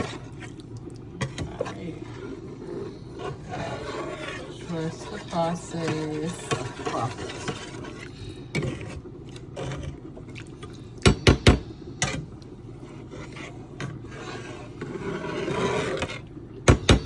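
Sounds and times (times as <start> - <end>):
spoon scraping a pot: 0.0 - 0.6, 1.2 - 10.1, 10.7 - 17.0.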